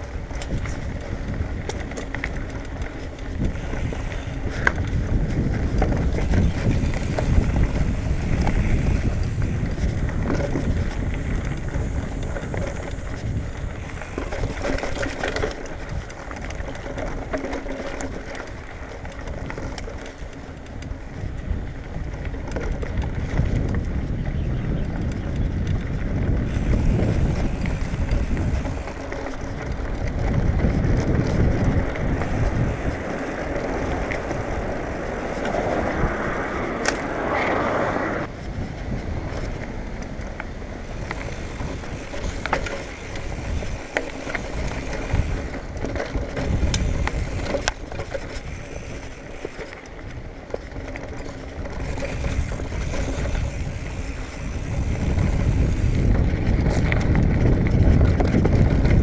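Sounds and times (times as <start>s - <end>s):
mountain bike rolling on dirt trail: 0.0s - 59.0s.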